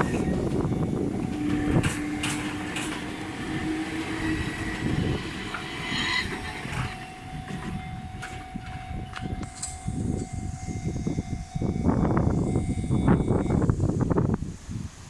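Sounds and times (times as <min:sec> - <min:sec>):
electric train passing: 0:00.0 - 0:14.4.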